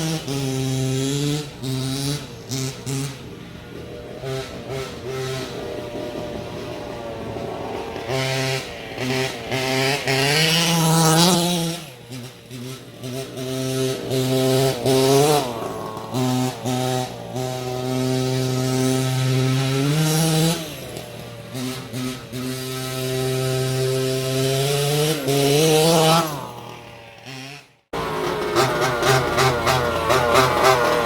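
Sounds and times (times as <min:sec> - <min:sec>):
model car engine revving: 0:00.0 - 0:31.0.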